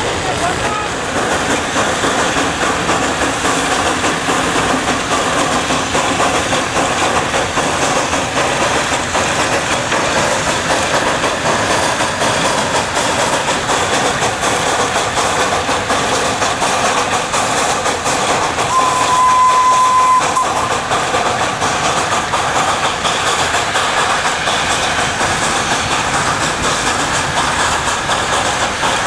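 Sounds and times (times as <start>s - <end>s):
steam locomotive running gear: 0.0s - 29.0s
wagons rattling over track: 0.0s - 29.0s.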